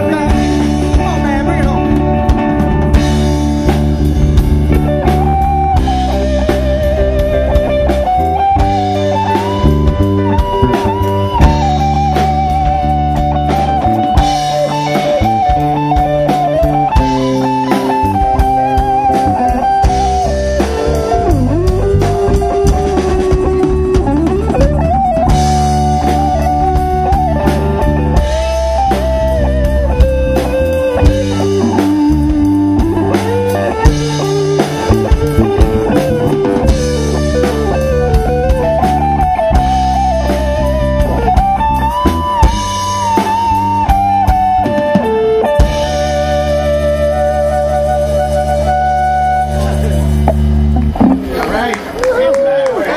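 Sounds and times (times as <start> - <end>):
bass guitar: 0.0 - 52.9
drum kit: 0.0 - 52.9
electric lead guitar: 0.0 - 52.9.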